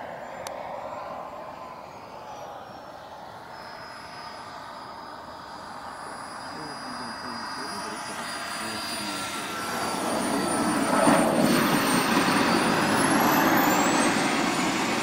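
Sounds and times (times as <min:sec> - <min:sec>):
model jet turbine whine: 0:00.0 - 0:15.0.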